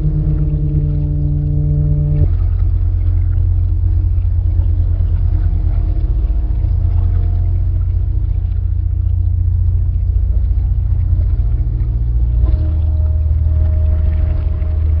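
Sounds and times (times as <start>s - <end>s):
faint steady hums: 0.0s - 15.0s
low rumbling drone: 0.0s - 15.0s
steady higher tone: 0.0s - 15.0s.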